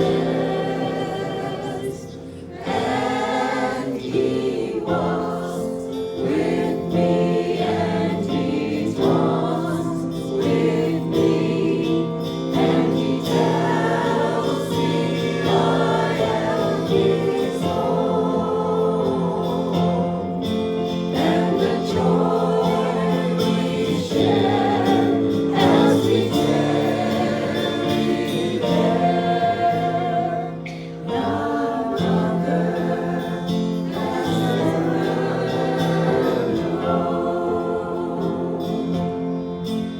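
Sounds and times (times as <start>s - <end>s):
group singing a worship song: 0.0s - 39.9s.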